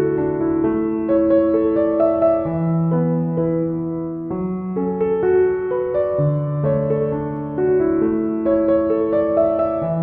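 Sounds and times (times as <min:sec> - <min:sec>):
gentle piano-like melody: 0:00.0 - 0:10.0.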